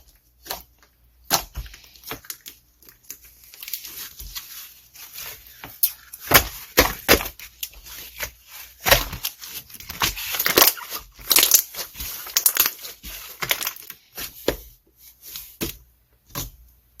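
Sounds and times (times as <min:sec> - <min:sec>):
crunching and crackling: 0:00.0 - 0:14.6.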